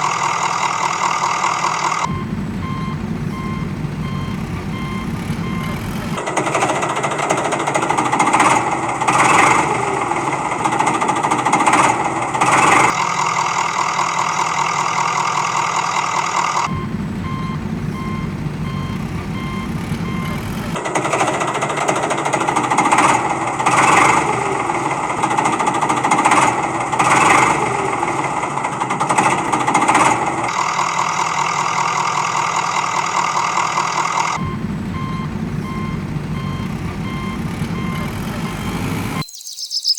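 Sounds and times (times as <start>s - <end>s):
heavy vehicle engine running: 0.0s - 39.2s.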